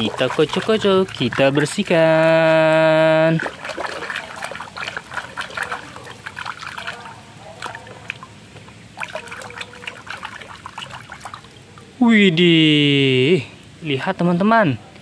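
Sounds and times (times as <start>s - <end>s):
water sloshing in a plastic tub: 0.0s - 12.0s.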